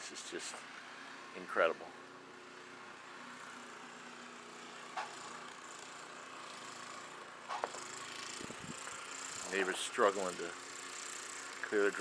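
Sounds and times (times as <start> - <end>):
snowblower engine running: 0.4 - 12.0.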